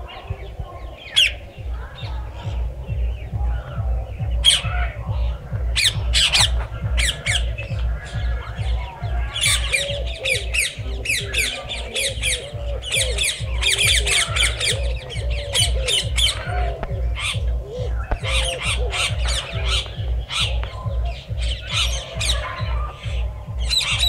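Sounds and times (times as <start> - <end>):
parakeets squawking and chattering: 0.0 - 24.0.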